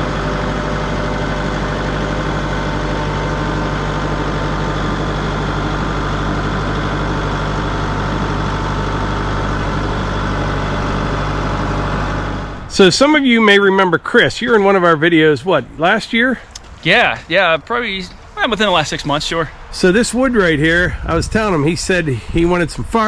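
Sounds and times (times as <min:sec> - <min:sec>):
engine idling: 0:00.0 - 0:13.8, 0:17.8 - 0:23.0.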